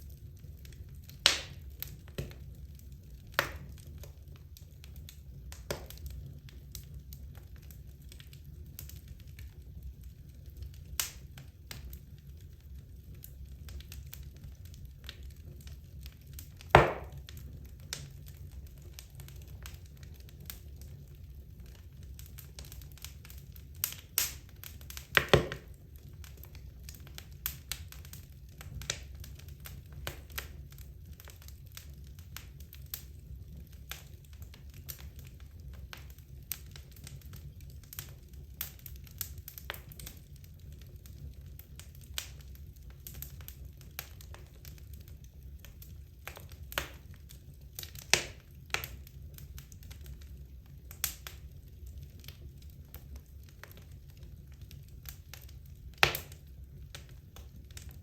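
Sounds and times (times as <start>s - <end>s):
logs crackling in fireplace: 0.0s - 58.0s
low fire rumble: 0.0s - 58.0s.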